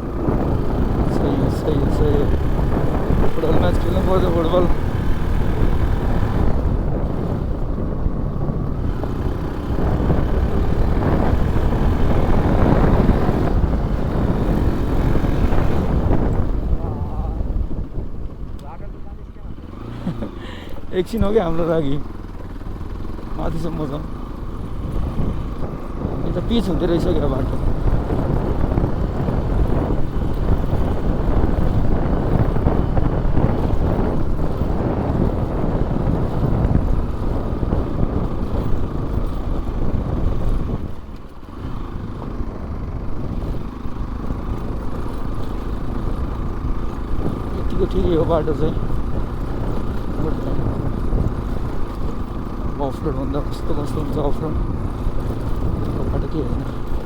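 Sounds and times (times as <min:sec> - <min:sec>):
motorcycle running: 0:00.0 - 0:57.0
road noise: 0:00.0 - 0:57.0
wind buffeting microphone: 0:00.0 - 0:57.0.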